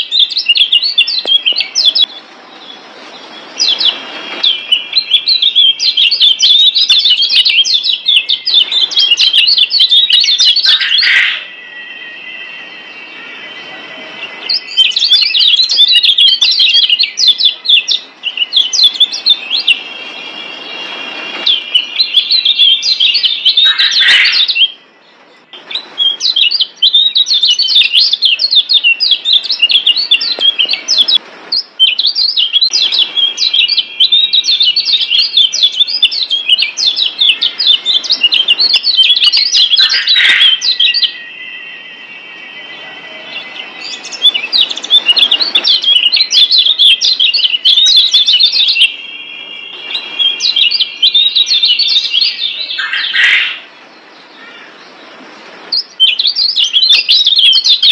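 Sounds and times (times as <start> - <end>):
birds singing high chirps: 0.0 - 57.9.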